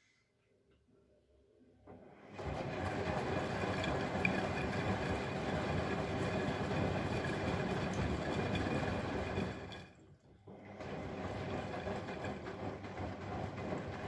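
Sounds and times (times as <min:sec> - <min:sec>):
washing machine drum rumbling: 0:01.9 - 0:14.0
wash churning: 0:02.2 - 0:14.0.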